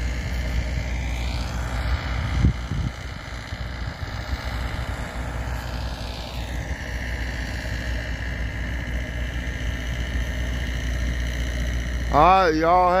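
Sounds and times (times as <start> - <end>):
diesel locomotive engines idling: 0.0 - 13.0
high whine dropping in pitch: 0.0 - 13.0.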